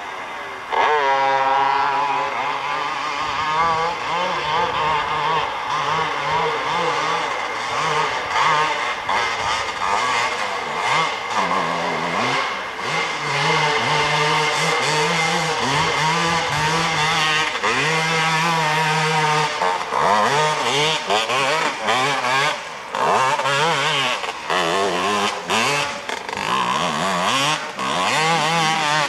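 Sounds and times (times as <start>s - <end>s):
atv engine revving: 0.0s - 29.0s
wheels spinning in dirt: 0.0s - 29.0s.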